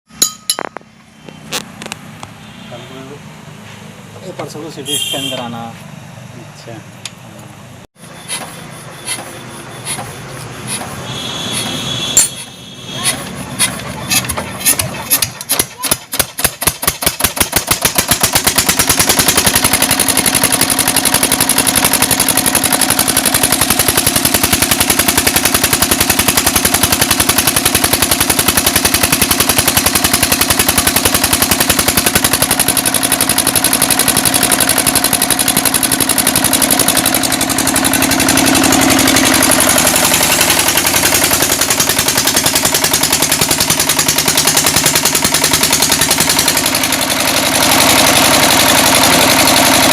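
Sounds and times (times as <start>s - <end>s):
diesel engine chugging: 8.0s - 49.9s.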